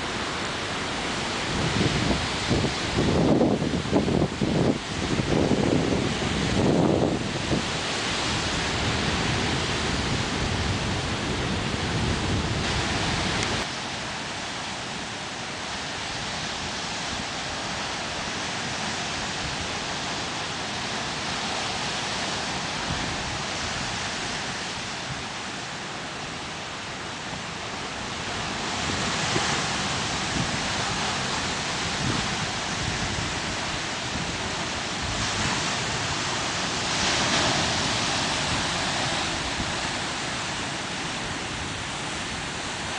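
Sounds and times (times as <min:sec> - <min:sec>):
surf washing against coast: 0:00.0 - 0:42.9
wind rumbling on microphone: 0:00.0 - 0:42.9.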